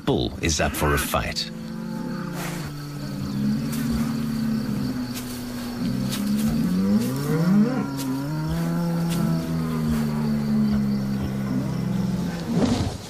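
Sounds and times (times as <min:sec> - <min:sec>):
bulls bellowing: 0:01.0 - 0:12.7.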